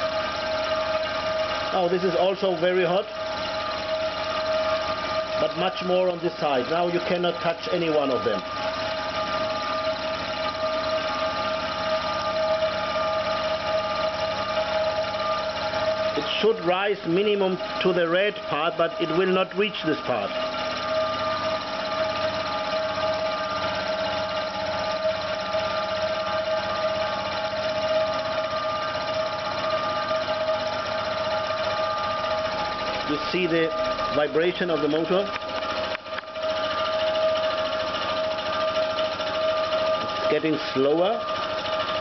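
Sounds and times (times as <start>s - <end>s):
air compressor motor whining: 0.0s - 42.0s
low vibration rattle: 0.0s - 42.0s.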